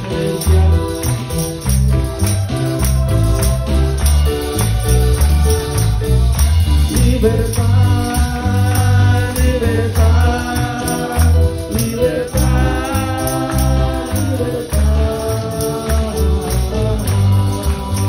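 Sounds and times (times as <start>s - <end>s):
bass line: 0.0s - 18.0s
jingling beat: 0.0s - 18.0s
keyboard melody: 0.0s - 18.0s.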